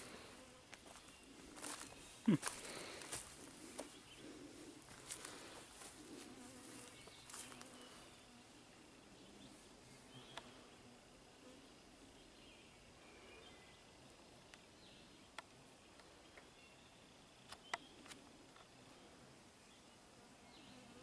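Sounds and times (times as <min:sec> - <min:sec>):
flies buzzing: 0:00.0 - 0:16.5, 0:17.6 - 0:21.0.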